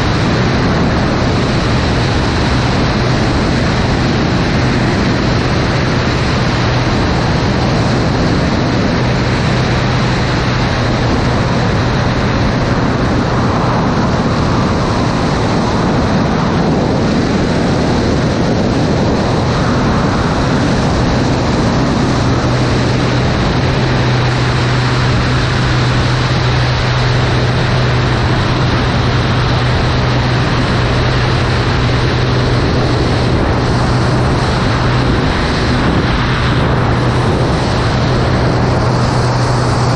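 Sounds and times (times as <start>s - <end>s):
propeller plane engine drone: 0.0s - 39.9s
rush of wind: 0.0s - 39.9s.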